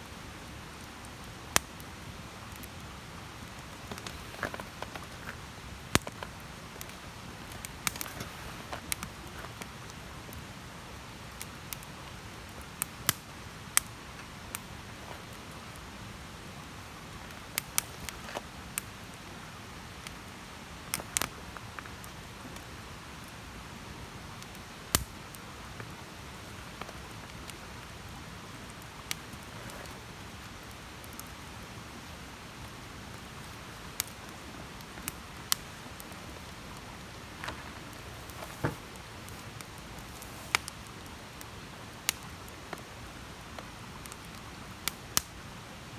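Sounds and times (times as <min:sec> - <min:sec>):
soft fire hiss: 0:00.0 - 0:45.9
campfire crackling and popping: 0:00.1 - 0:45.8.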